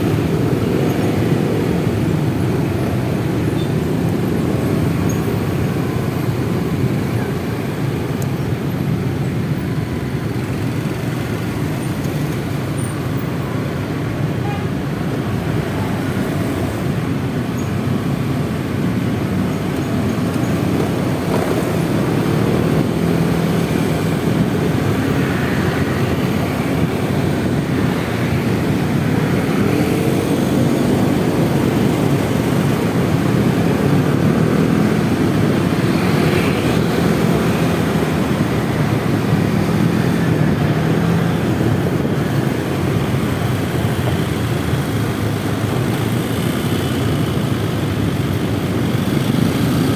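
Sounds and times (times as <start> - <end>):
road noise: 0.0 - 49.9.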